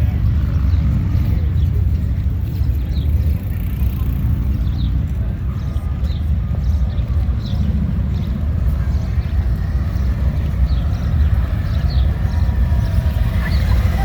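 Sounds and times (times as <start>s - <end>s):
motorcycle engines rumbling: 0.0s - 14.0s.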